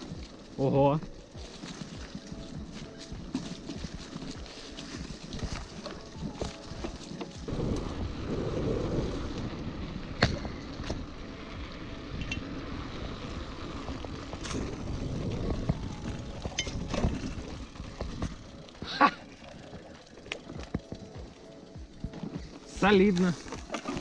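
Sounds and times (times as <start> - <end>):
bike rattling and knocking: 0.0 - 8.2, 12.0 - 24.0
bike tyres rolling on dirt: 0.0 - 24.0.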